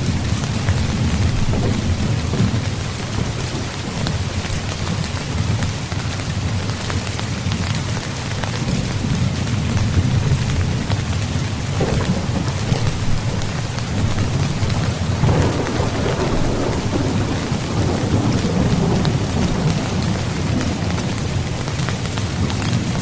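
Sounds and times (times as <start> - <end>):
rain on tent fabric: 0.0 - 23.0
thunder rumble: 0.0 - 23.0.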